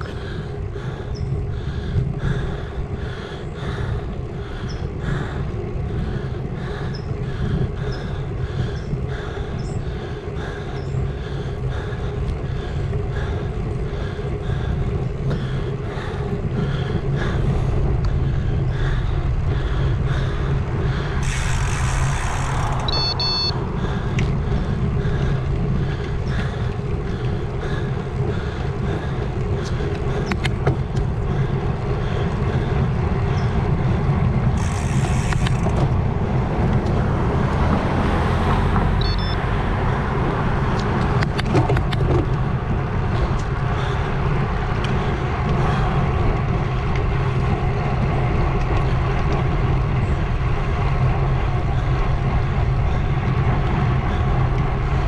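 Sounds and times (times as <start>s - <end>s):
faint ticking from bike: 0.0s - 37.6s, 38.2s - 55.0s
tyre and wind rumble: 0.0s - 55.0s.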